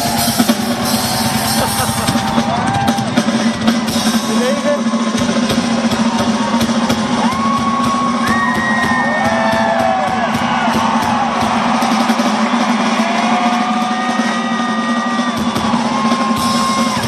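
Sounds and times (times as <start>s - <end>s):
crowd cheering and whooping: 0.0s - 4.8s, 5.5s - 17.0s
rock band playing with drums: 0.0s - 17.0s.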